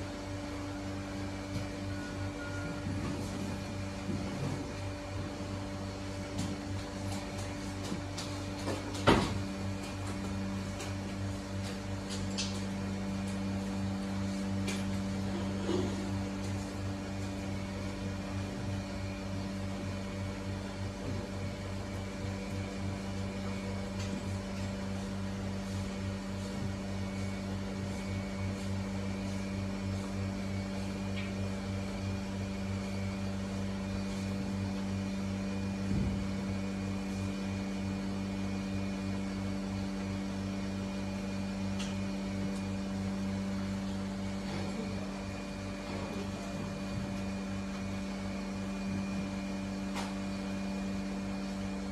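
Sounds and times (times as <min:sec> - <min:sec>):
machinery humming: 0:00.0 - 0:51.9.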